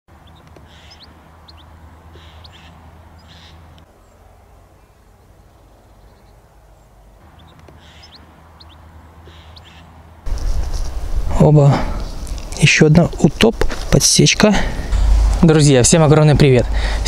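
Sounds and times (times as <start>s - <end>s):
birds chirping: 0.1s - 17.0s
steady low hum: 0.1s - 17.0s.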